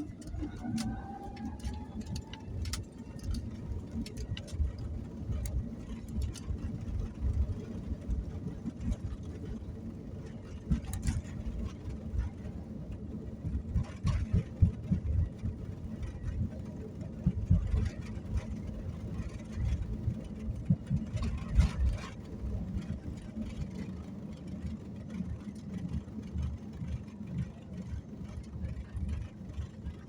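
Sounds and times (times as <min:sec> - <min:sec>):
airliner engines rumbling: 0:00.0 - 0:30.0
engine whine: 0:00.0 - 0:30.0.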